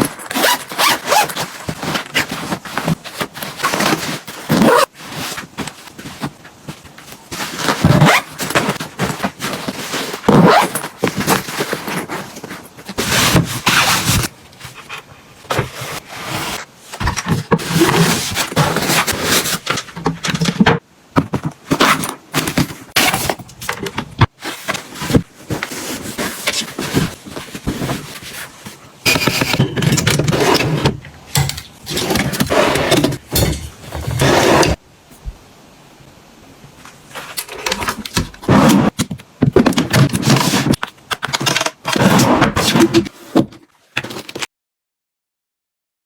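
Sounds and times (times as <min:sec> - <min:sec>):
rustling and scraping of items: 0:00.0 - 0:35.4, 0:36.6 - 0:44.5.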